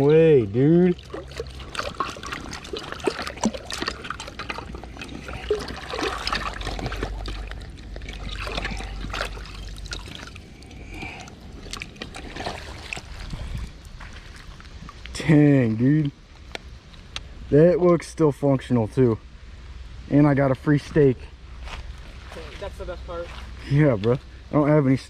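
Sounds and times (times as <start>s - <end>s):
creek water trickling: 0.0s - 25.0s.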